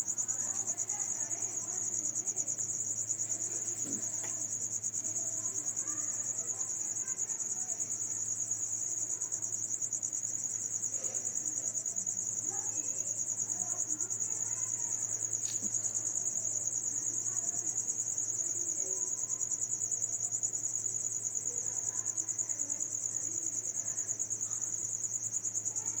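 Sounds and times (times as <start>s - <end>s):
cricket trilling: 0.0s - 26.0s.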